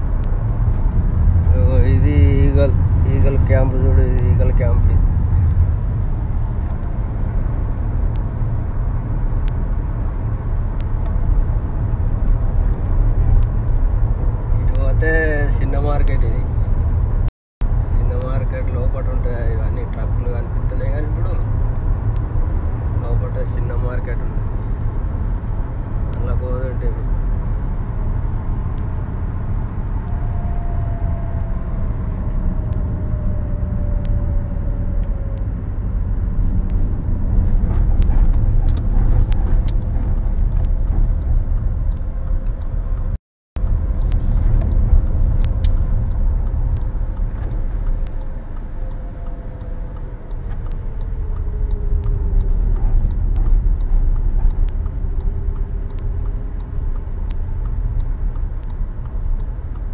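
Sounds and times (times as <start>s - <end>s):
car engine and tyres rumble: 0.0s - 59.9s.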